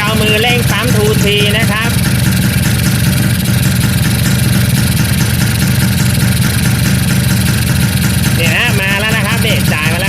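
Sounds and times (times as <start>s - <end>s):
two-stroke engine idling: 0.0s - 10.0s.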